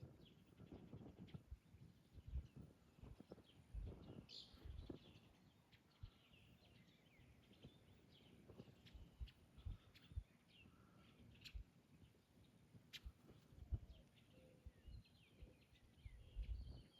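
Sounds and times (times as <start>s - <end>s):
birds chirping and calling: 0.1s - 16.9s.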